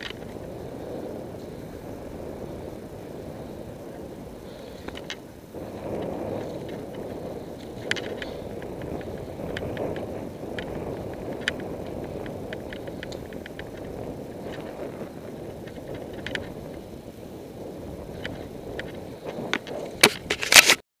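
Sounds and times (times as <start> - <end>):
bicycle clicks and rattles: 0.0 - 20.8
wind and tyre noise: 0.0 - 20.8.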